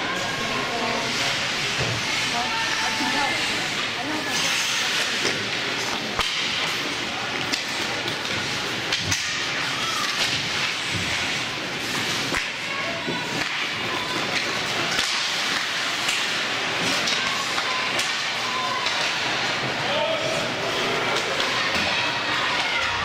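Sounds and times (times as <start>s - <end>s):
hockey sticks and puck clacking: 0.2s - 23.0s
skates scraping on ice: 0.2s - 23.0s.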